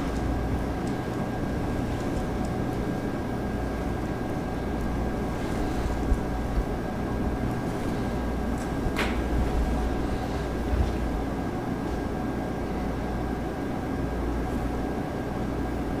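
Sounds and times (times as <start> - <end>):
steady low rumbling: 0.0 - 13.4.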